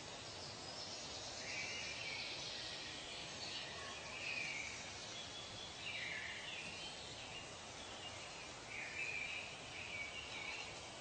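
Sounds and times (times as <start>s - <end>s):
birds calling: 0.0s - 11.0s
faint background hiss: 0.0s - 11.0s.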